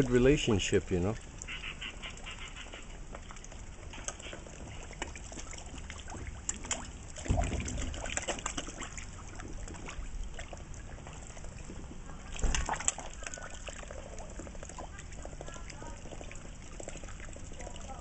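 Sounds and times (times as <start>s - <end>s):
small wet clicks: 0.0s - 18.0s
water splashing and slurping: 0.0s - 18.0s.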